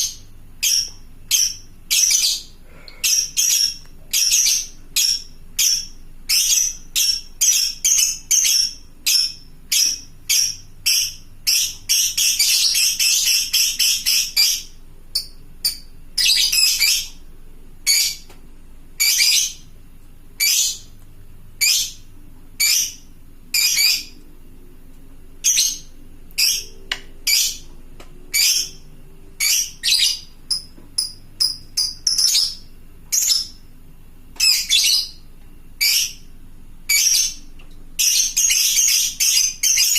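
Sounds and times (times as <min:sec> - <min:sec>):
lovebird chirping: 0:00.0 - 0:17.2, 0:17.8 - 0:18.3, 0:19.0 - 0:19.7, 0:20.4 - 0:20.9, 0:21.6 - 0:24.2, 0:25.4 - 0:27.7, 0:28.3 - 0:33.7, 0:34.4 - 0:36.3, 0:36.9 - 0:39.9.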